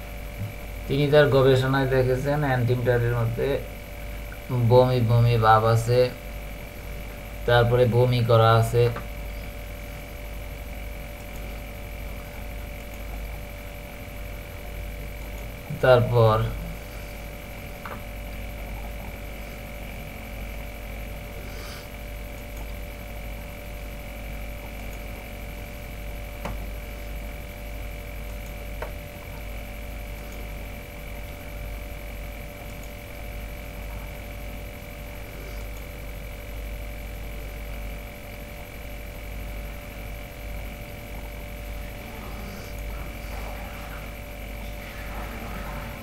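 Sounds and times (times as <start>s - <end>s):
electrical mains hum: 0.0s - 46.0s.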